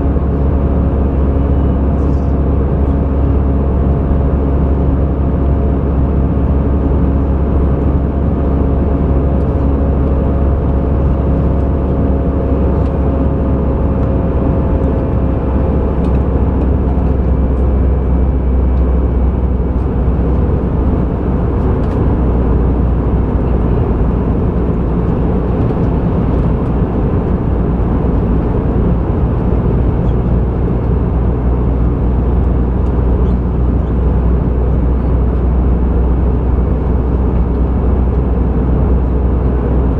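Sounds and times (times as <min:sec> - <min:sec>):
plane cabin engine rumble: 0:00.0 - 0:39.9.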